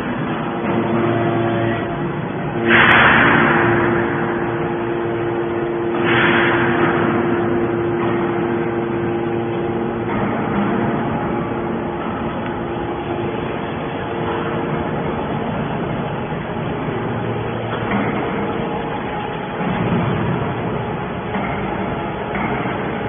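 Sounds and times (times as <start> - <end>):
hydraulic pump humming: 0.0 - 23.0
loud bursts of noise: 0.0 - 23.0.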